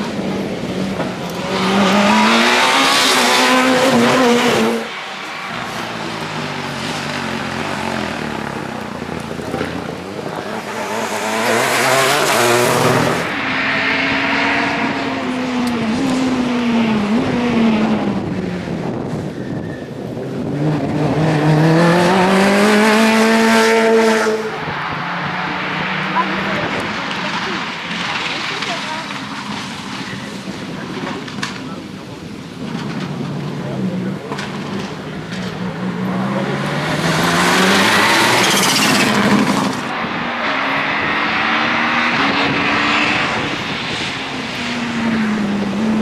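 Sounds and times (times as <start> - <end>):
rally car engine revving: 0.0 - 31.6, 32.2 - 46.0
distant rally car driving: 0.0 - 46.0.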